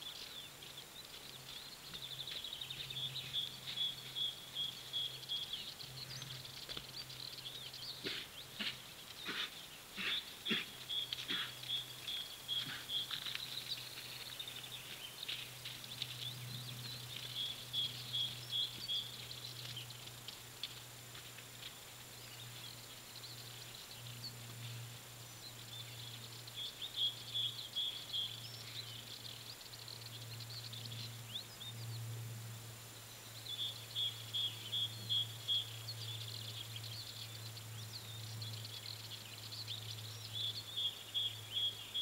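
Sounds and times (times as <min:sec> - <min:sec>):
faint constant high tone: 0:00.0 - 0:42.0
small birds singing: 0:00.0 - 0:42.0
steady low hum: 0:00.0 - 0:42.0.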